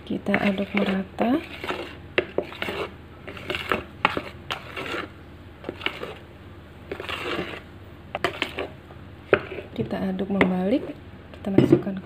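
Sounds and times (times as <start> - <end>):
spatula scraping through batter: 0.1 - 9.8, 10.4 - 11.0.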